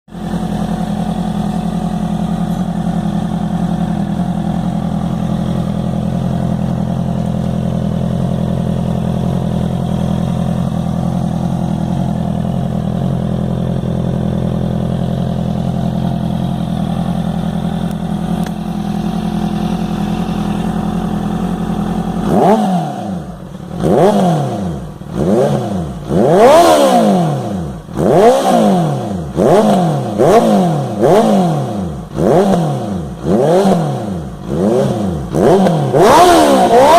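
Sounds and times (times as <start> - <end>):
motorcycle engine idling: 0.1 - 36.9
motorcycle engine revving: 0.1 - 36.9.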